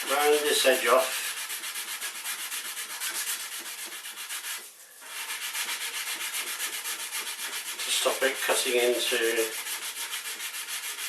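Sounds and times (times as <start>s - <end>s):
sandpaper rubbing back and forth: 0.0s - 11.0s.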